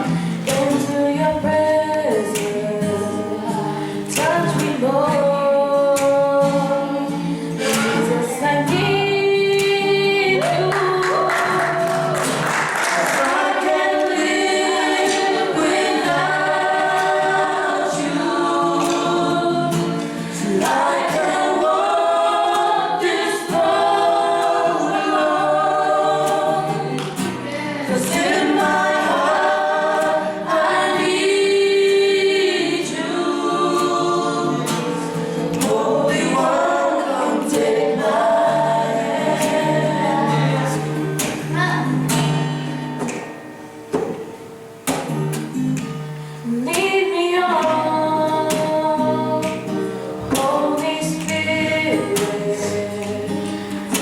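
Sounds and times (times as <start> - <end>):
group singing in harmony: 0.0 - 54.0.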